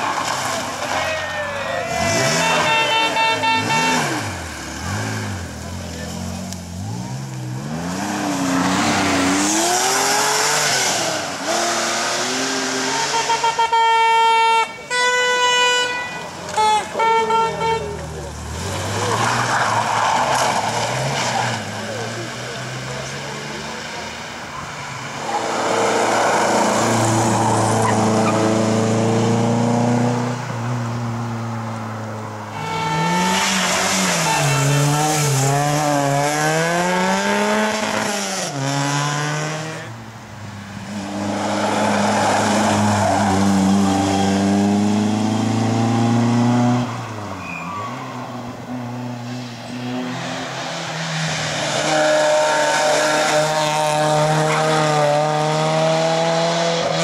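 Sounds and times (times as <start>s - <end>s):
rally cars passing at full throttle: 0.0s - 57.0s.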